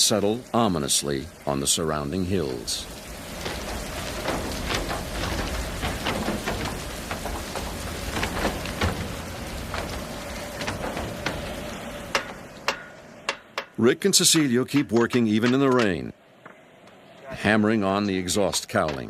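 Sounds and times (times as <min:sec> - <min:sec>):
steady rain falling: 0:00.0 - 0:19.0
sharp taps of raindrops: 0:01.3 - 0:17.0, 0:18.3 - 0:19.0.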